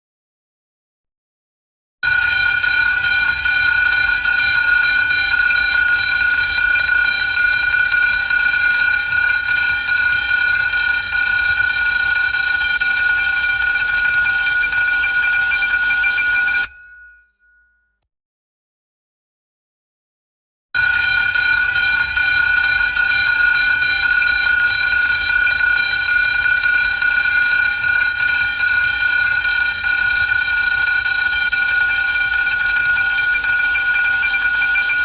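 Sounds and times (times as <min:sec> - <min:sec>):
alarm ringing high tone: 0:02.0 - 0:17.7, 0:20.8 - 0:35.0.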